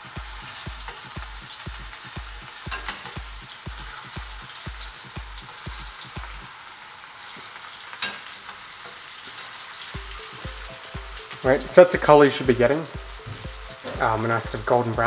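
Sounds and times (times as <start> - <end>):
pakoras sizzling in oil: 0.0 - 15.0.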